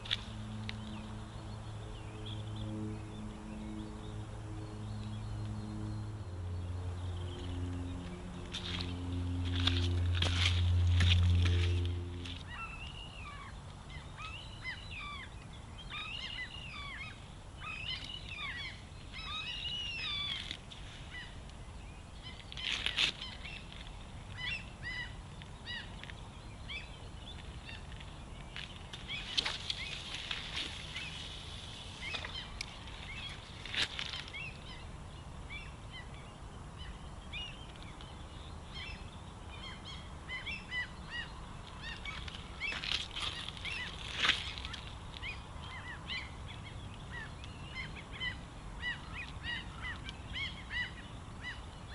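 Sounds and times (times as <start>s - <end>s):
birds calling: 0.0s - 51.9s.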